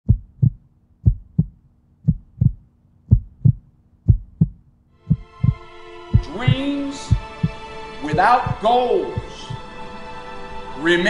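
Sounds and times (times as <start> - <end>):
heartbeat thumps: 0.0 - 9.7.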